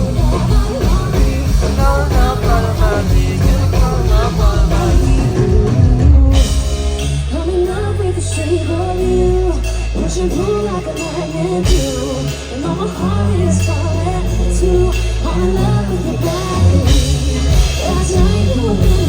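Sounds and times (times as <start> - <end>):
rock song with singing: 0.0 - 19.0.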